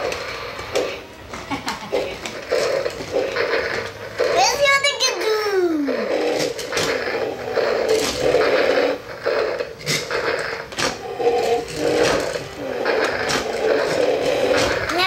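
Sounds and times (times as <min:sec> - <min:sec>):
toy gear motors whirring: 0:00.0 - 0:15.0.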